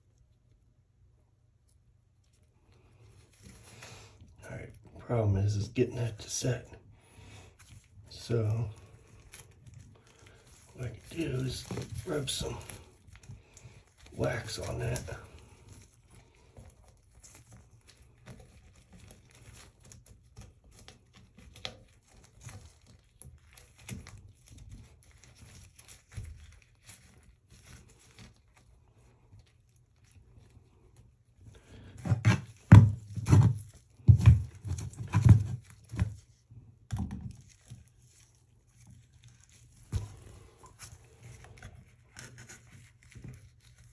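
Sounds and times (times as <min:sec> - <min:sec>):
gloved hand rubbing inside pipe: 0:02.4 - 0:43.9.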